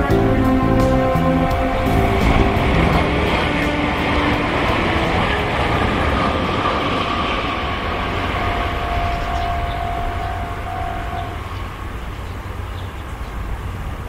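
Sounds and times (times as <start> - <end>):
faint train whine: 0.0 - 14.0
train wheels rumbling on rails: 0.0 - 14.0.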